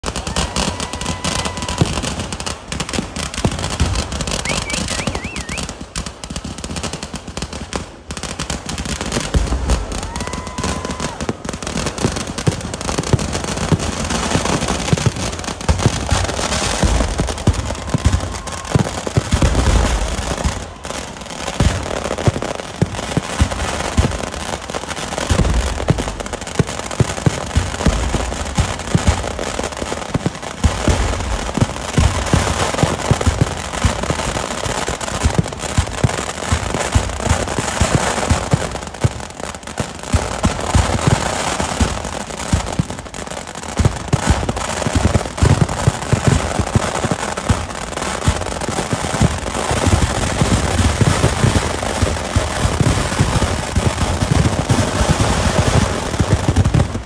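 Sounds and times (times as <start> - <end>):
firework crackling: 0.0 - 57.0
fireworks banging rapidly: 0.0 - 57.0.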